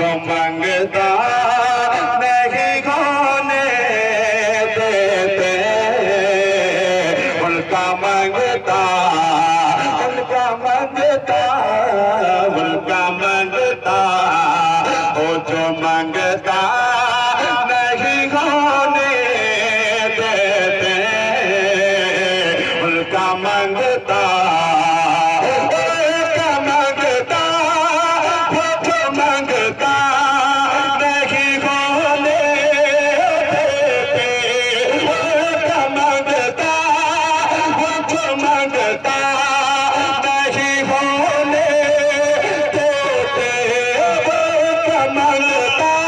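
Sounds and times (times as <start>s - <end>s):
man singing drawn-out chant: 0.0s - 46.0s.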